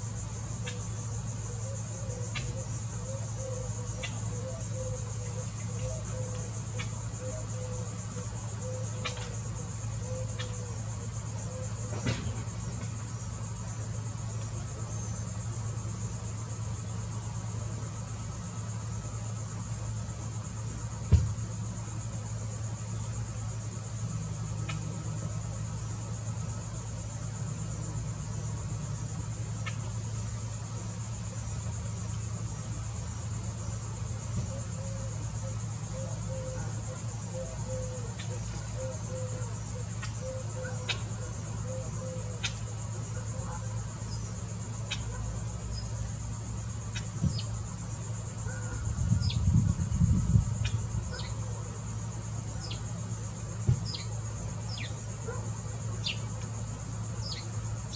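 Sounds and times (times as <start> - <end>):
chorus of crickets: 0.0 - 57.9.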